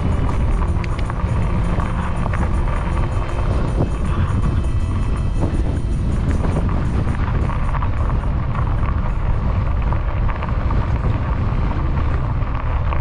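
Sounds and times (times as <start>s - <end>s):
tyres rattling over dirt: 0.0s - 13.0s
wind rumbling on microphone: 0.0s - 13.0s.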